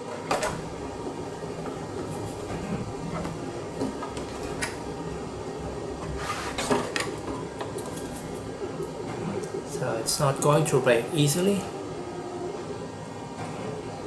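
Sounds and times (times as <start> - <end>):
steady low hum: 0.3 - 14.0.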